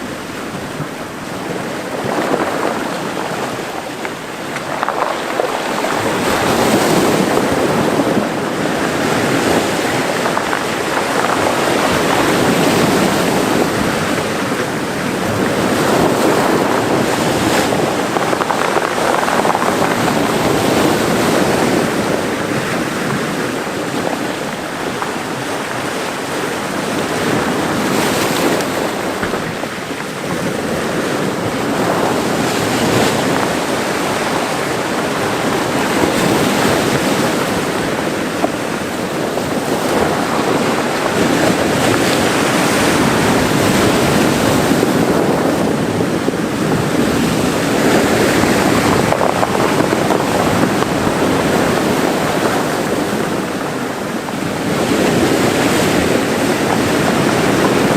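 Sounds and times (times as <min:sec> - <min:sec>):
sea waves breaking ashore: 0:00.0 - 0:57.9.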